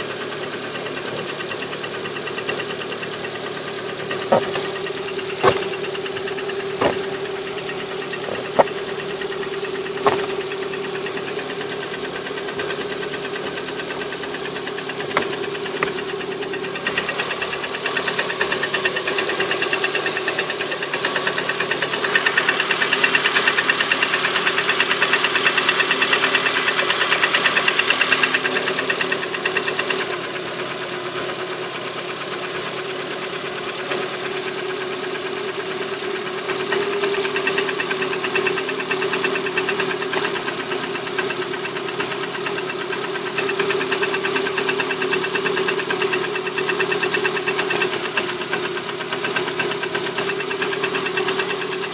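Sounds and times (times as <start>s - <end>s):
engine idling with piston knock: 0.0s - 51.9s.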